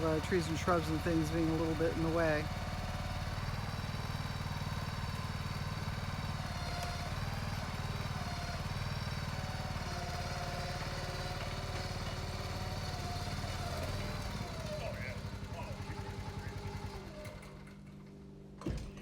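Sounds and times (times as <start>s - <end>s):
machine engine running: 0.0s - 18.6s.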